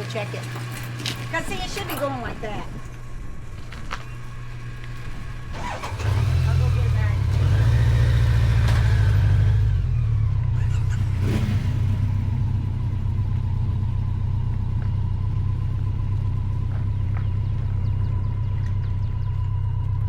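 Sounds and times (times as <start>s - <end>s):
motorcycle engine idling: 0.9s - 20.0s.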